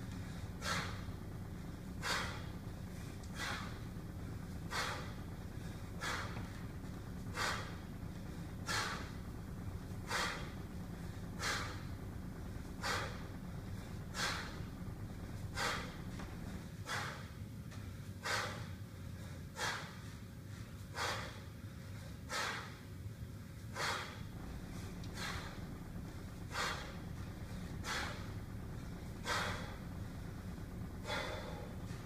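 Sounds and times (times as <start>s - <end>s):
man breathing forcefully: 0.0s - 32.0s
steady low hum: 0.0s - 32.0s.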